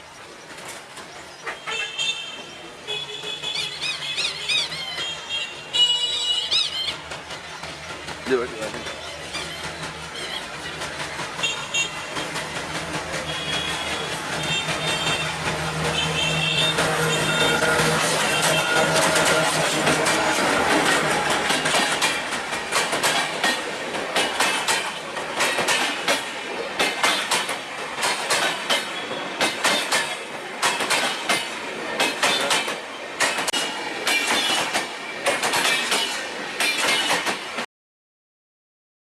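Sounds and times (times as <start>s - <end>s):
train rolling rumble: 0.0s - 37.6s
train wheels clicking over rail joints: 0.0s - 37.6s.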